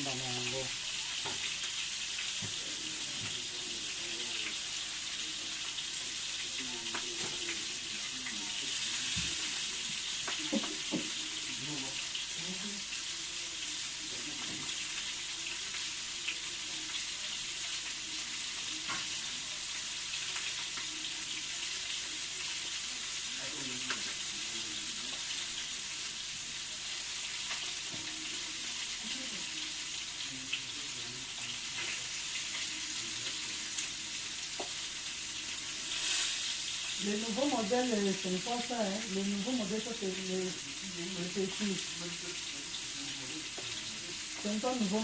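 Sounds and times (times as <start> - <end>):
food sizzling in a pot: 0.0 - 45.0.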